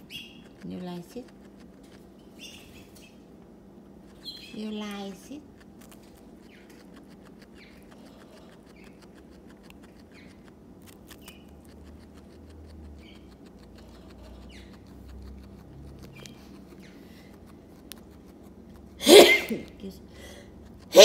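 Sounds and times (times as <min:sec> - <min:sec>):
guinea pig chewing vegetables: 0:00.0 - 0:21.0.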